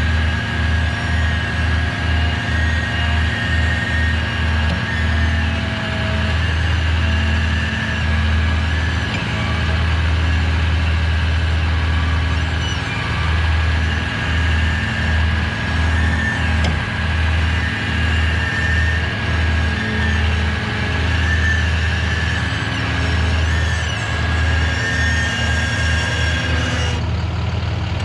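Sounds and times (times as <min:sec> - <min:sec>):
heavy truck engine running: 0:00.0 - 0:28.0.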